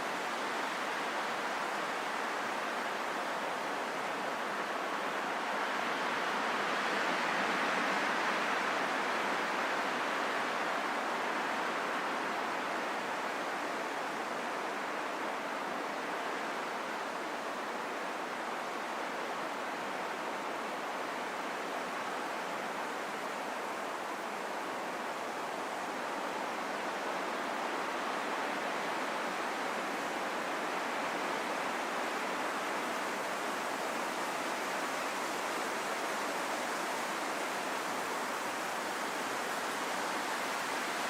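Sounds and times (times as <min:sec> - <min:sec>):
rain falling in a forest: 0:00.0 - 0:41.0.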